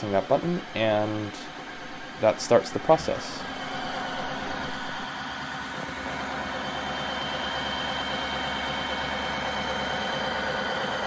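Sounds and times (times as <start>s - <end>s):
floor washer motor humming: 0.0s - 11.0s.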